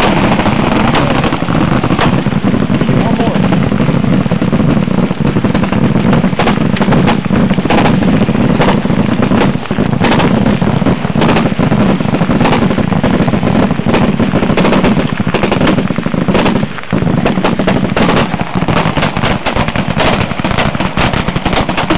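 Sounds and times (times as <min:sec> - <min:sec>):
rapid gunfire: 0:00.0 - 0:21.9.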